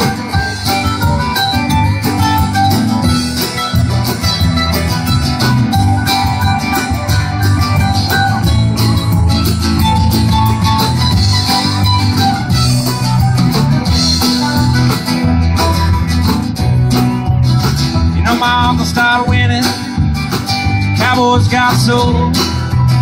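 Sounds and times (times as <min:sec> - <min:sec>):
country band playing: 0:00.0 - 0:23.0
electric guitar lead line bending: 0:00.0 - 0:23.0.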